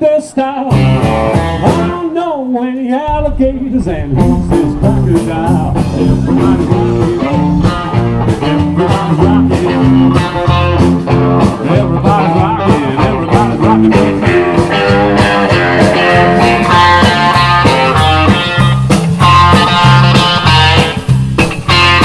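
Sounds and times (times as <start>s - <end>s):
rock and roll band playing: 0.0s - 22.0s
lead guitar: 3.2s - 22.0s.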